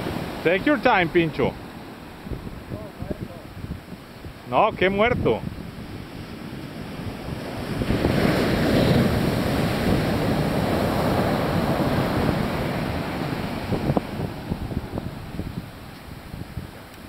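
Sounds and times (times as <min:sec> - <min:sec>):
surf breaking on beach: 0:00.0 - 0:17.0
wind rumbling on microphone: 0:00.0 - 0:17.0.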